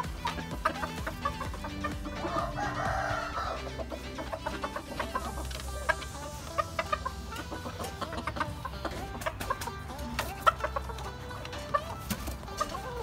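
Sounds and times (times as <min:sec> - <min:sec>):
background music: 0:00.0 - 0:13.0
chicken clucking: 0:00.0 - 0:13.0.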